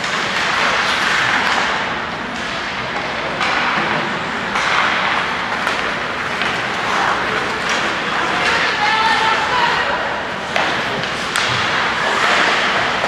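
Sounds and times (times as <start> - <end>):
hockey sticks clicking on puck: 0.0 - 13.0
crowd noise: 1.0 - 13.0.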